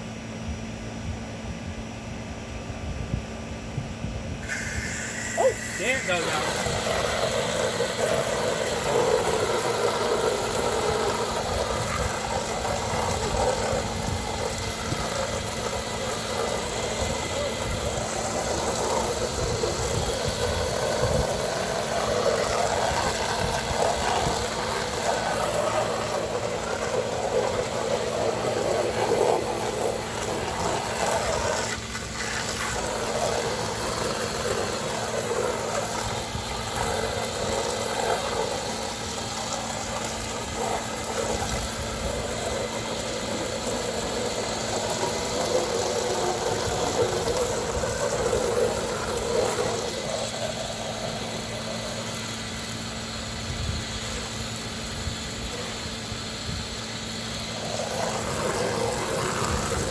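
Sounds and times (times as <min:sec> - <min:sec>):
pressure washer spraying water: 0:04.4 - 0:59.9.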